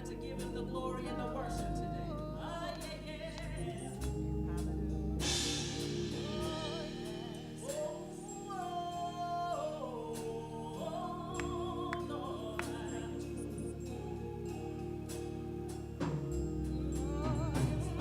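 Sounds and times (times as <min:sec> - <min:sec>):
gospel worship song: 0:00.0 - 0:18.0.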